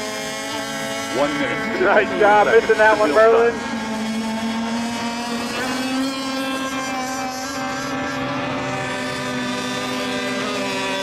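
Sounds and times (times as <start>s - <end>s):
model boat engines buzzing: 0.0s - 11.0s.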